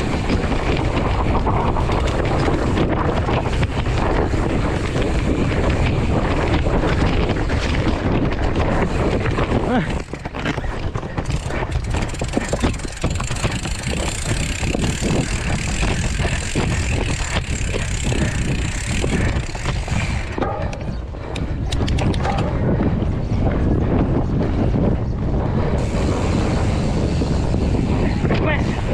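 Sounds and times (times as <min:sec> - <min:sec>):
bike rattling and clicking: 0:00.0 - 0:28.9
tyres rolling over rough ground: 0:00.0 - 0:28.9
wind buffeting microphone: 0:00.0 - 0:28.9.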